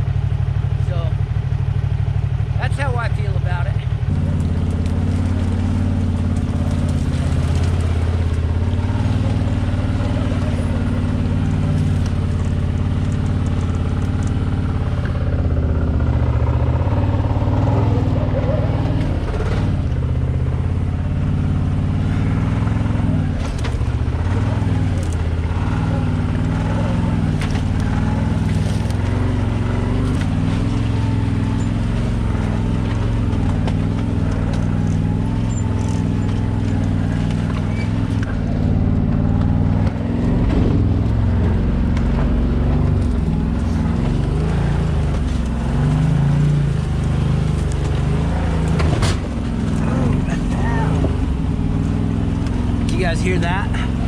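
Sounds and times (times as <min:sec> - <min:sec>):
engine running at low speed: 0:00.0 - 0:54.0.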